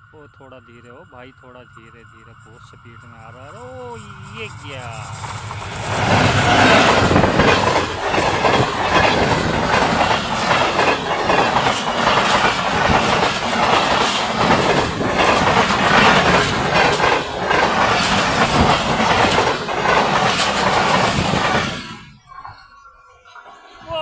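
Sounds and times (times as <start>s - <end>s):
loud rush of passing train: 0.0s - 24.0s
train wheels clattering over rails: 0.4s - 22.6s.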